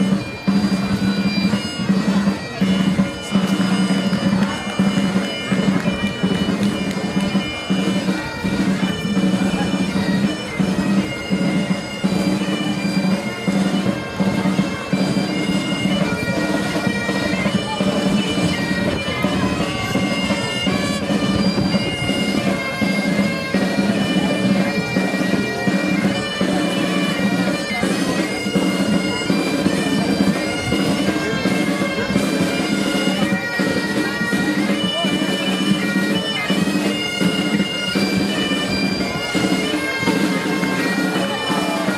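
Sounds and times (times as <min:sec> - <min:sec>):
bagpipe drone: 0:00.0 - 0:41.9
bagpipes playing a marching tune: 0:00.0 - 0:41.9.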